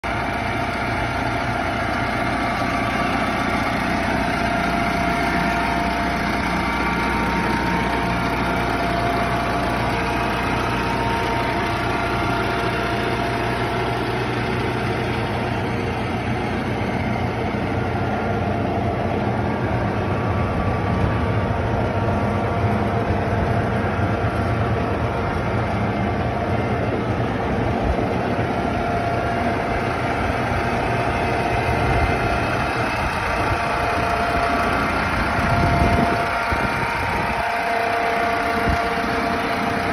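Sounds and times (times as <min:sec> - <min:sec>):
diesel tractor idling: 0:00.0 - 0:39.9.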